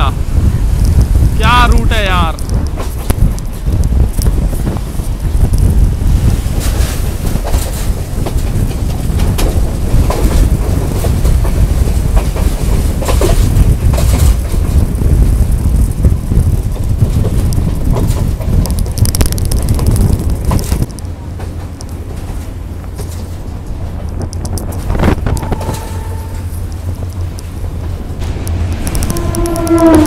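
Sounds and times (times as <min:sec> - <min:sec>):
train rumbling on track: 0:00.0 - 0:30.0
wheels clacking over rail joints: 0:00.4 - 0:30.0.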